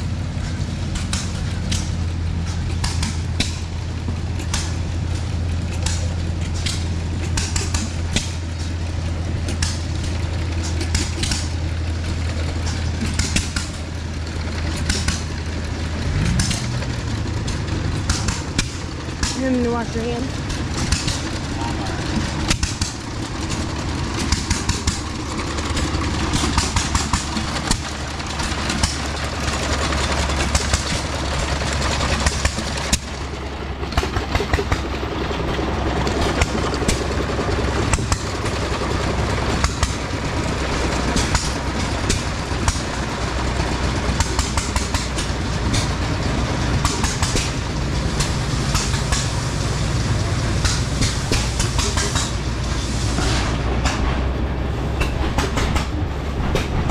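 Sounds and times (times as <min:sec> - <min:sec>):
train engine hum: 0:00.0 - 0:56.9
train wheels clicking and rattling: 0:00.0 - 0:56.9.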